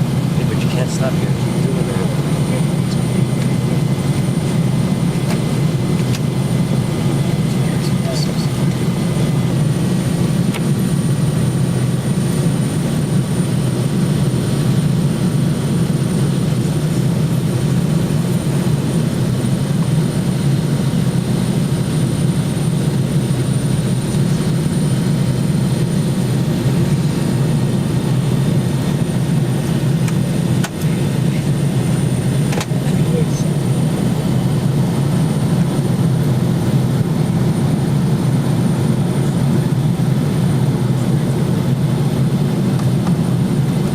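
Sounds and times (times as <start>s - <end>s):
jet cabin engine and airflow roar: 0.0s - 43.9s.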